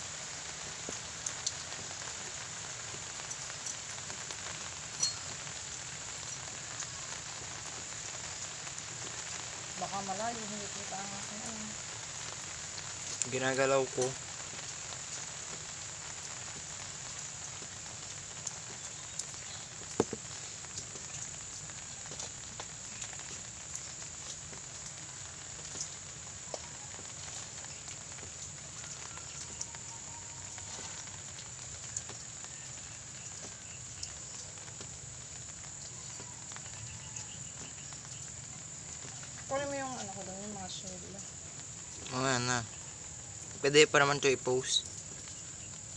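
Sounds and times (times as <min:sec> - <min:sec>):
light rain pattering: 0:00.0 - 0:45.9.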